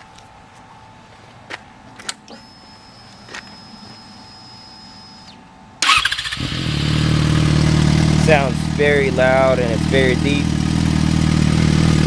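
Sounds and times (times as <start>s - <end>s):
fuel pump whining: 2.0s - 12.0s.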